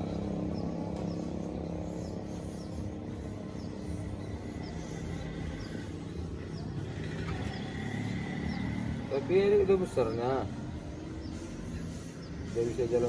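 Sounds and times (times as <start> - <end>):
caged birds chirping: 0.0 - 13.0
low mechanical hum: 0.0 - 13.0.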